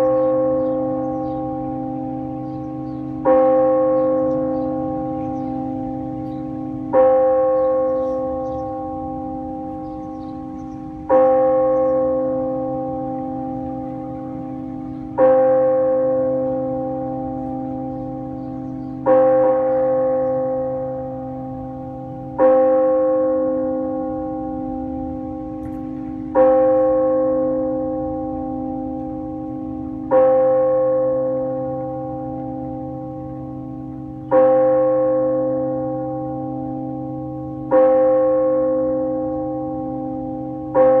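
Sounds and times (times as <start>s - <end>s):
bell tolling slowly: 0.0s - 41.0s.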